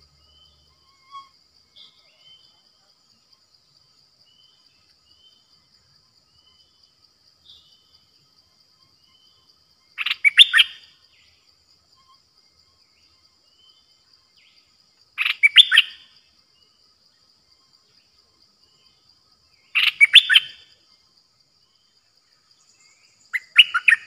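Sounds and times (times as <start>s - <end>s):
faint bird chirps: 0.0s - 24.0s
faint high insect tone: 0.0s - 24.0s.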